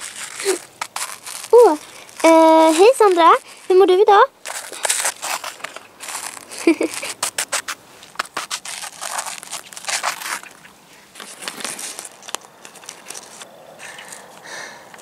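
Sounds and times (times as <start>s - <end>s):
plastic toy rustling and scraping: 0.0s - 14.4s.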